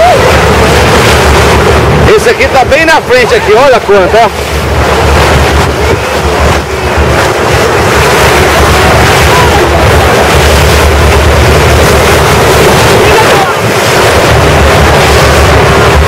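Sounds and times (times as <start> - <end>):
low motor drone: 0.0 - 16.0
water rushing along boat bow: 0.0 - 16.0
wind buffeting microphone: 0.0 - 16.0.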